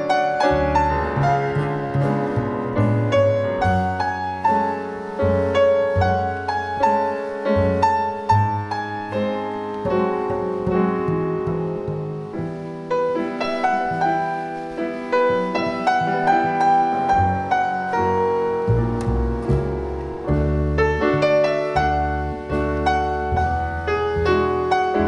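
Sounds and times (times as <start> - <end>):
grand piano playing: 0.0 - 25.0
plucked double bass: 0.0 - 25.0.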